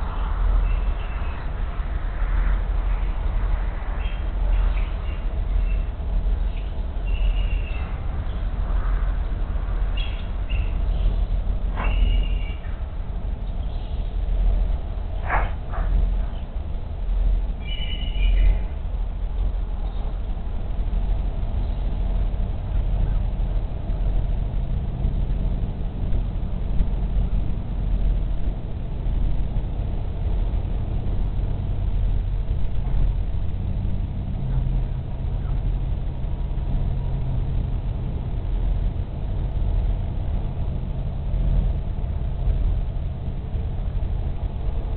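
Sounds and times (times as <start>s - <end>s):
distant road and rail traffic: 0.0s - 44.9s.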